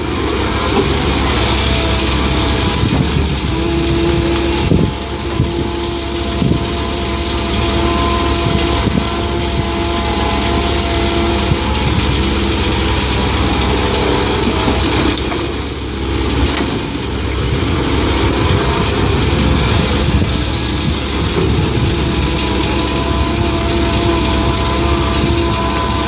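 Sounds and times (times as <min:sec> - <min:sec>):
constant whine: 0:00.0 - 0:26.0
excavator diesel engine running: 0:00.0 - 0:26.0.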